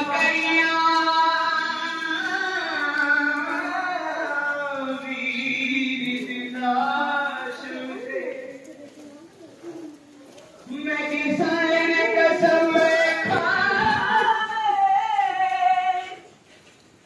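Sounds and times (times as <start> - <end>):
person chanting a lament: 0.0 - 8.8, 10.6 - 16.3.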